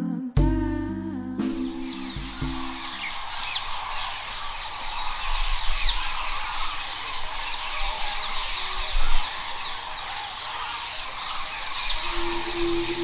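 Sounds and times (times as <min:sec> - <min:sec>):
flock of birds calling: 0:01.6 - 0:13.0.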